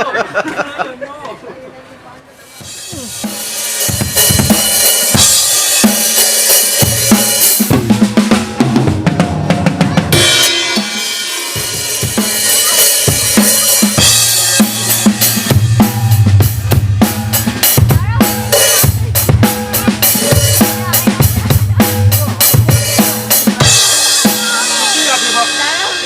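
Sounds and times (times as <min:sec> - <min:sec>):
drum kit playing: 0:02.5 - 0:26.0.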